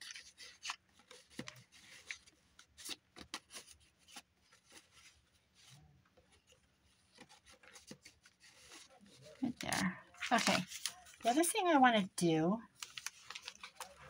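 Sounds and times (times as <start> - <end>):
paper rustling: 0.0 - 11.8, 12.7 - 14.0.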